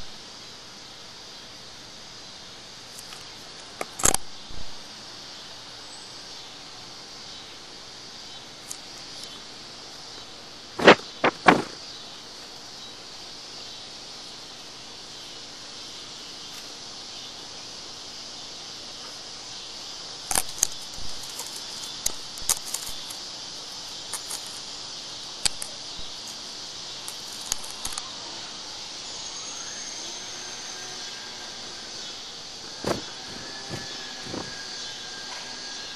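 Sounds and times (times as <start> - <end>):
cicada chorus drone: 0.0 - 35.9.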